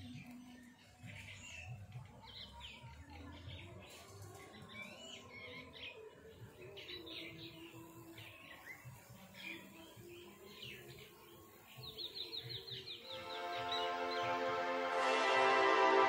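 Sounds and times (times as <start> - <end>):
birds chirping and calling: 0.0 - 14.4.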